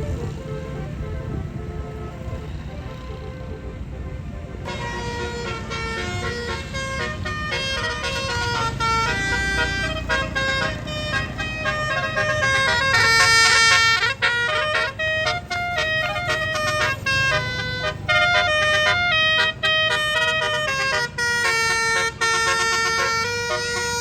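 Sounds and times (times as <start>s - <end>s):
low engine rumble: 0.0s - 24.0s
musical air horns playing tune: 0.0s - 24.0s.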